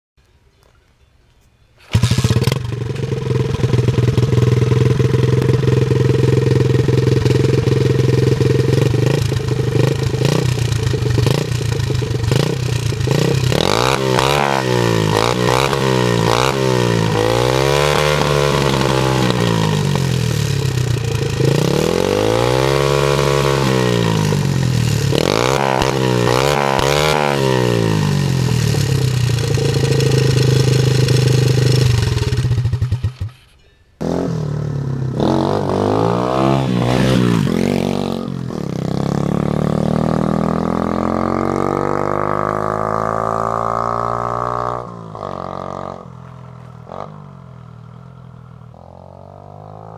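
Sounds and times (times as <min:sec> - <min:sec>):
pit bike engine idling and revving: 0:01.9 - 0:49.9.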